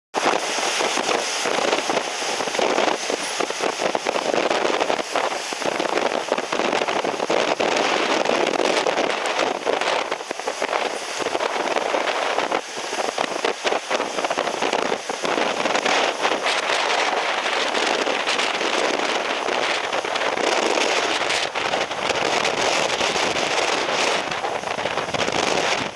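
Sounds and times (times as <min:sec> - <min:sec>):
wind buffeting microphone: 0:00.2 - 0:25.9.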